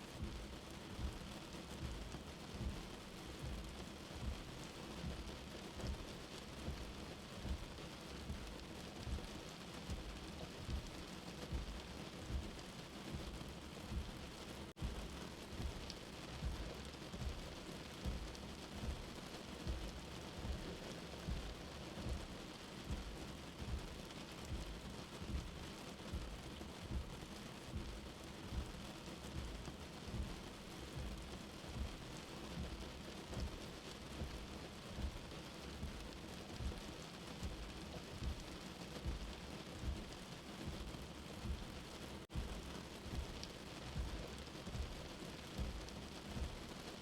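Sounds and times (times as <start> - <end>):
rain falling on shelter: 0.0 - 47.0
soft low heartbeat thumps: 0.1 - 47.0.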